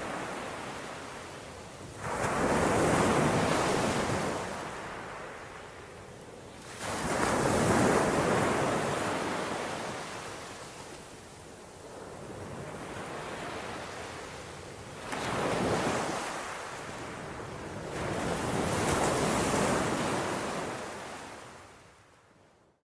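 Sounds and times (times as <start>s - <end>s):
sea waves washing in: 0.0s - 21.8s.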